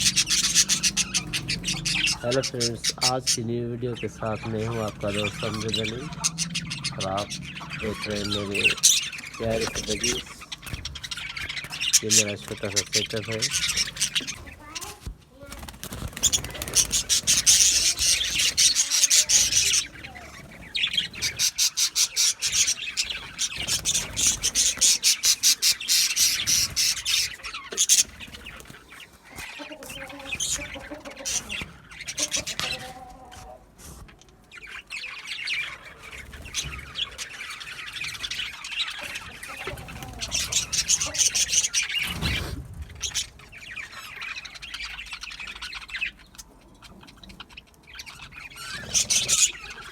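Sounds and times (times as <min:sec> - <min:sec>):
budgerigars chattering and chirping: 0:00.0 - 0:49.9.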